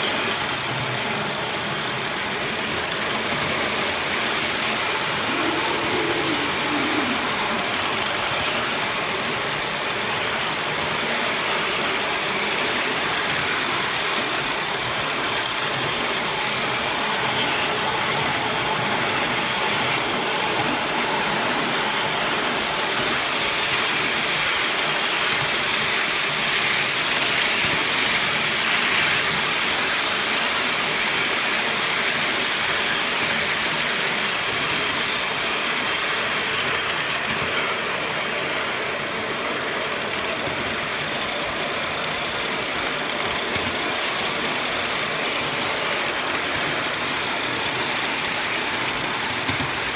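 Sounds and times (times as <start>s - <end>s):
steam locomotive chuffing: 0.0s - 49.9s.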